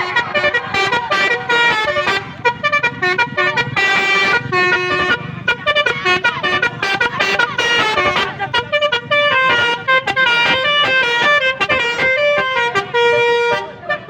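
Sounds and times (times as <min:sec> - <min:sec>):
multi-tone musical car horn: 0:00.0 - 0:14.0.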